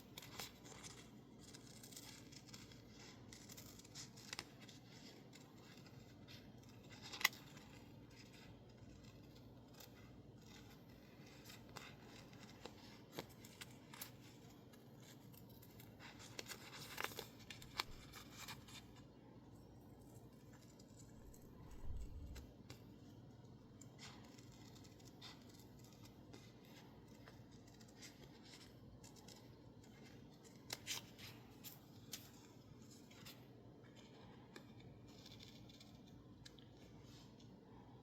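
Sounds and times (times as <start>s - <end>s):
scissors snipping paper: 0.0s - 19.0s, 20.4s - 36.9s
paper rustling: 0.0s - 19.4s, 20.2s - 38.0s.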